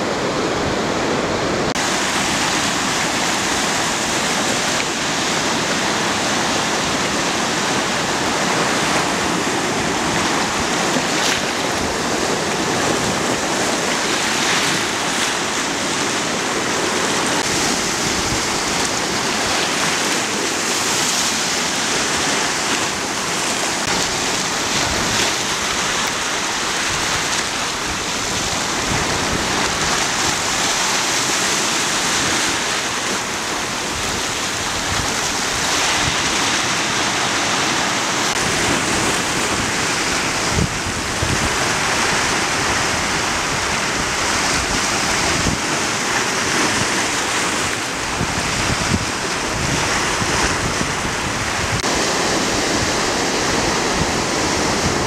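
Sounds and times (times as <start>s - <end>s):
small waves breaking on shore: 0.0s - 55.0s.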